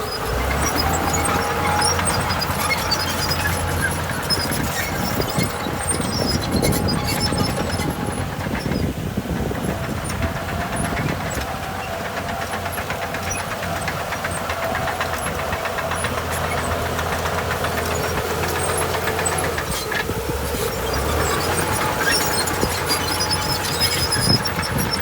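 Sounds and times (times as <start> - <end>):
diesel engine drone: 0.0 - 25.0
rapid metallic clatter: 0.0 - 25.0.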